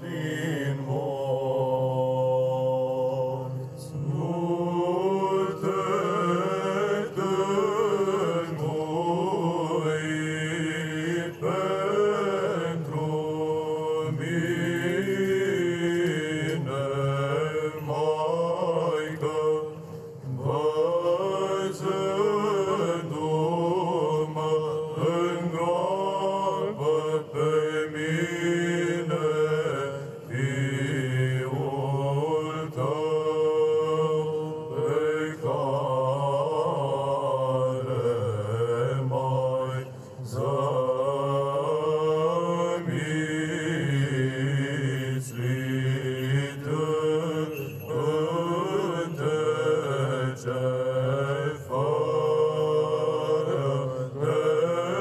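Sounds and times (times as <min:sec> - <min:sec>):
low held vocal drone: 0:00.0 - 0:55.0
men's choir chanting: 0:00.0 - 0:55.0.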